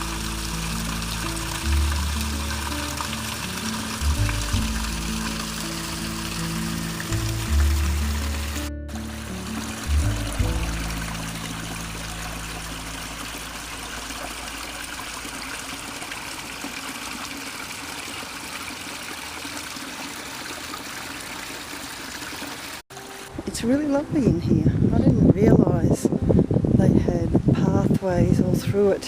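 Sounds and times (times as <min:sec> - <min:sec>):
stream and waterfall splashing: 0:00.0 - 0:24.1.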